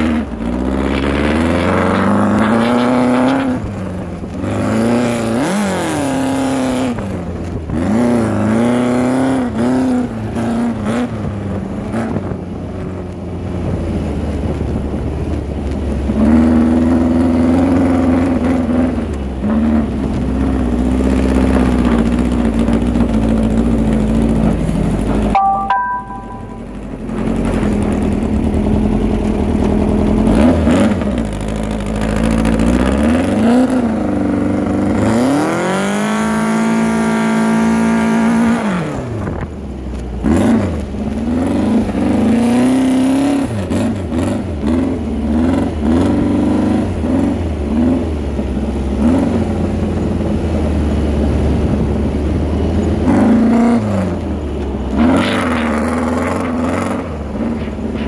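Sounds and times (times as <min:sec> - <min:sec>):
dune buggy engine revving: 0:00.0 - 0:25.3, 0:26.0 - 0:58.0.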